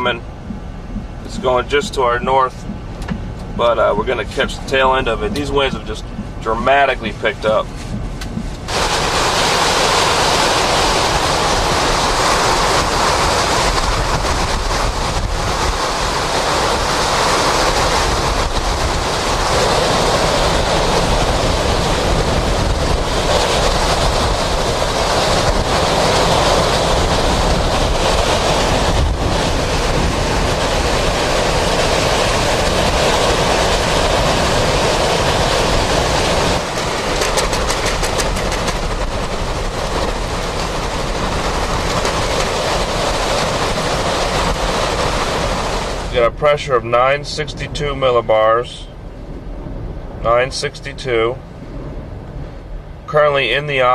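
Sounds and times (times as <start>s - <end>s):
wind buffeting microphone: 0.0s - 46.4s, 48.5s - 50.3s, 51.4s - 53.1s
wind roaring: 0.0s - 53.9s.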